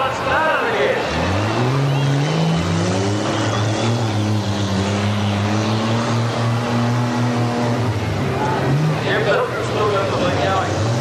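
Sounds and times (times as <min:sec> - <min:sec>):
car engine revving hard: 0:00.9 - 0:11.0.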